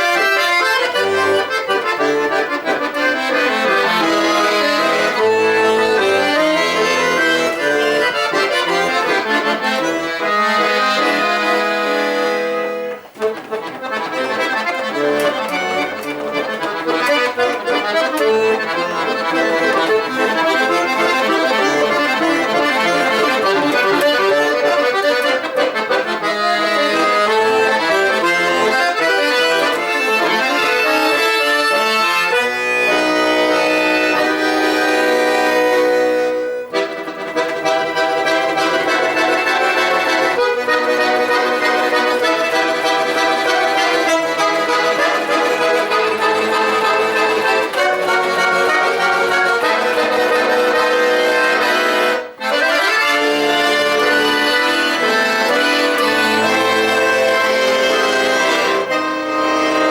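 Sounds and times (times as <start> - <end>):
solo accordion: 0.0 - 59.9.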